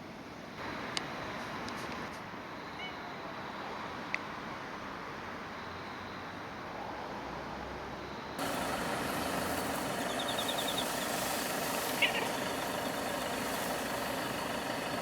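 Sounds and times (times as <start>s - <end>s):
distant traffic noise: 0.6s - 15.0s.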